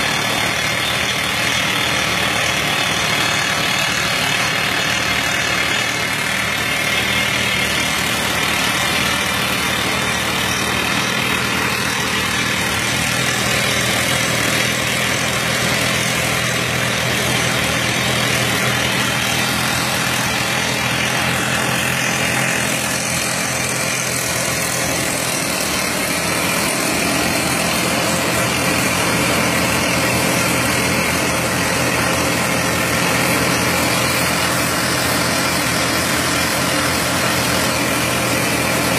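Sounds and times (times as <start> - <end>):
excavator diesel engine running: 0.0 - 38.9
stone mill mechanical noise: 0.0 - 38.9.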